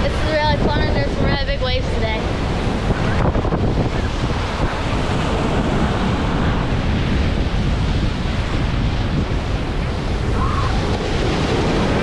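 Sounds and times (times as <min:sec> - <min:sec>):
ocean waves breaking: 0:00.0 - 0:12.0
wind buffeting microphone: 0:00.0 - 0:12.0.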